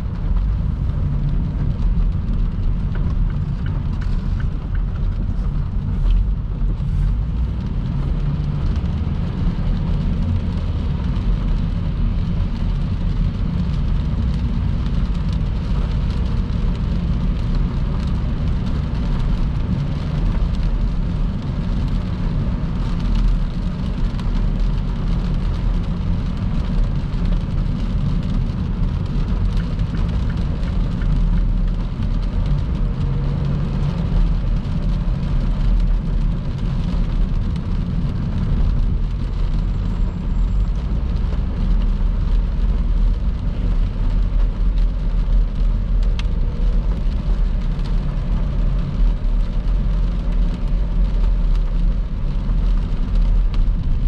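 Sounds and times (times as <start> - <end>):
car driving rumble: 0.0 - 54.0
rain and tyre spray hiss: 0.0 - 54.0.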